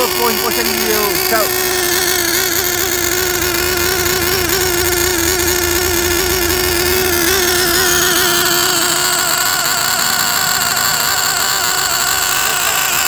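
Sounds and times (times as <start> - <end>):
model car engine running: 0.0 - 13.0.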